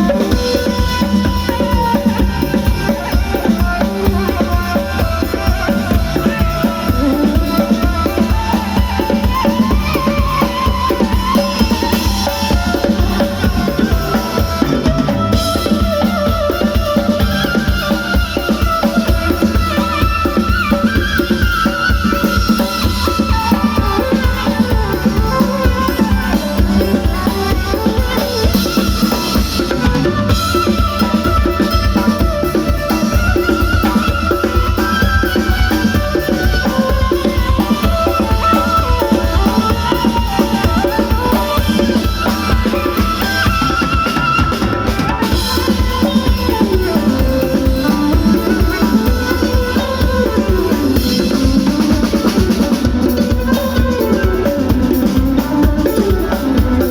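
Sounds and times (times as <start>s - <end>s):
drum kit beat: 0.0s - 56.9s
wavering melodic line: 0.0s - 56.9s.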